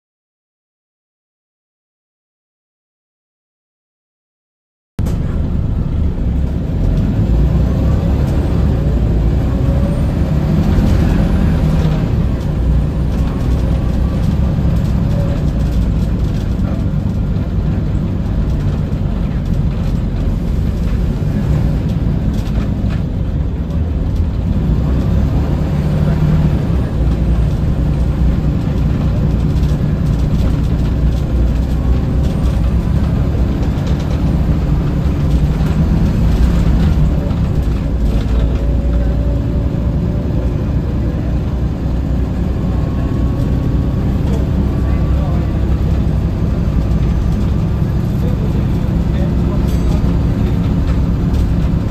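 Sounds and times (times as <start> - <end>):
bus engine drone: 5.0 - 51.9
road noise: 5.0 - 51.9.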